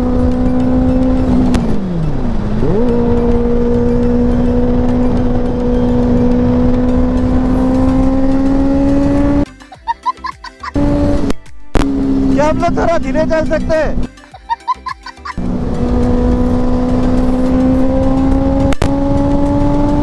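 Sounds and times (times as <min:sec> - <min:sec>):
motorcycle engine at high revs: 0:00.0 - 0:09.5, 0:10.8 - 0:14.0, 0:15.4 - 0:20.0.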